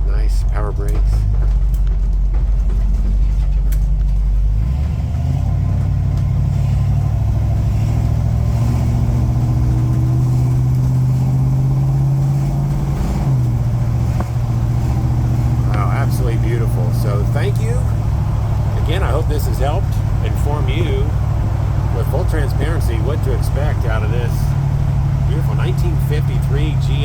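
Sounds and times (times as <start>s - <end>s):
truck engine pulling away: 0.0s - 27.0s.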